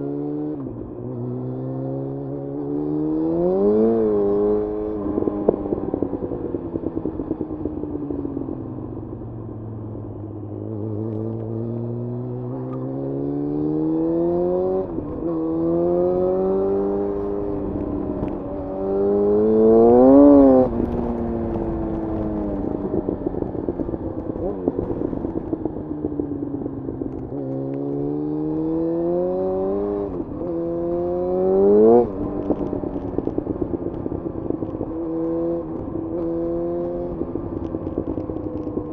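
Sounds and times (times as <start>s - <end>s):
motorcycle engine revving: 0.0s - 8.6s, 10.4s - 38.9s.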